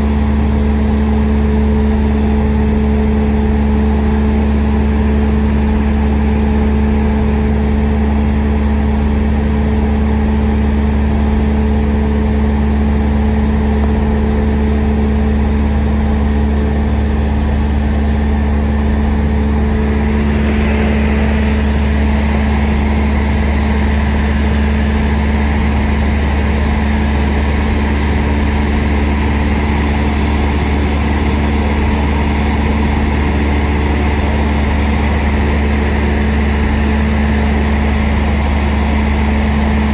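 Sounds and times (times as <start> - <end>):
aircraft engine drone in cabin: 0.0 - 39.9.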